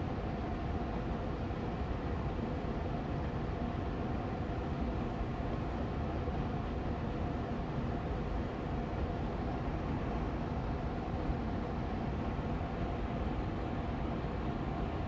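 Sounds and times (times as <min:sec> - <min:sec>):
air purifier fan running: 0:00.0 - 0:15.0.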